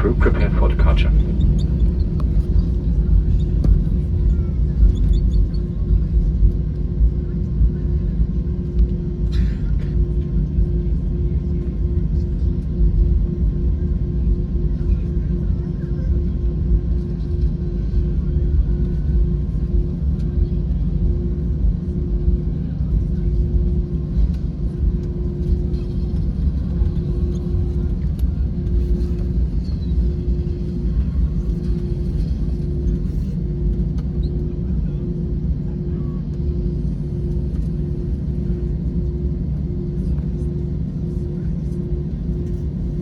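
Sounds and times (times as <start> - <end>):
aircraft low rumble: 0.0 - 43.0
pulsing faint hum: 0.0 - 43.0.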